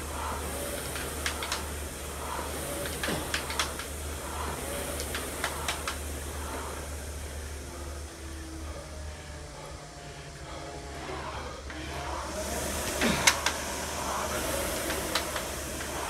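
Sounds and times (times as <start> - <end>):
rowing machine flywheel whooshing: 0.0 - 16.0
steady low hum: 0.0 - 16.0.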